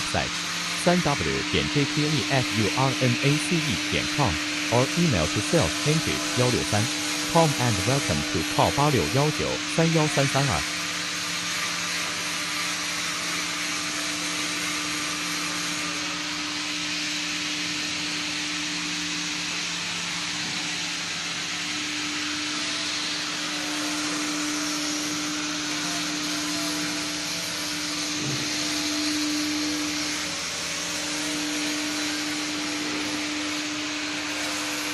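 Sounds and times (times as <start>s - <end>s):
hissing machinery whir: 0.0s - 34.9s.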